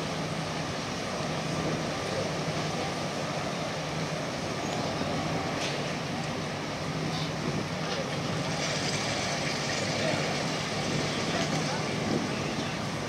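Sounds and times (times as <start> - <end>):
boat engines low hum: 0.0 - 13.0
harbour noise: 0.0 - 13.0.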